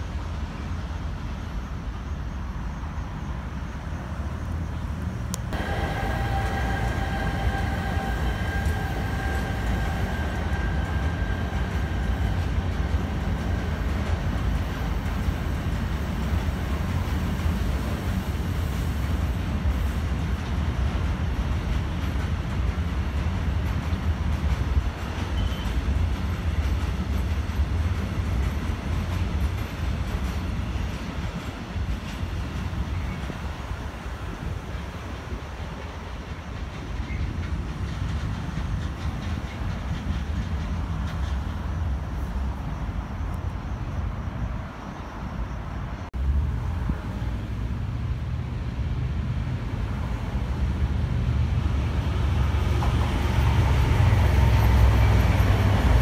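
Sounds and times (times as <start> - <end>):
freight train rumbling: 0.0 - 56.0.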